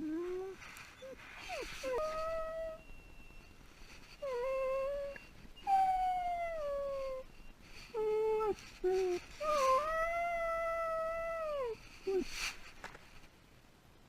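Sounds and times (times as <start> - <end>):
puppy whining and howling: 0.0 - 12.5.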